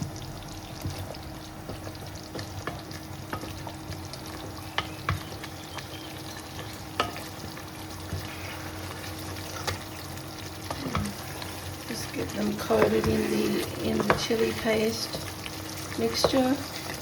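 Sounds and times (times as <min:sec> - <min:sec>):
meat sizzling in a saucepan: 0:00.0 - 0:17.0.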